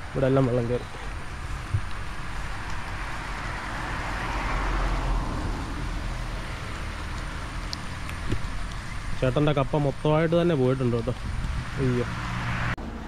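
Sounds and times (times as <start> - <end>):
road vehicle passing by: 0.0 - 13.0.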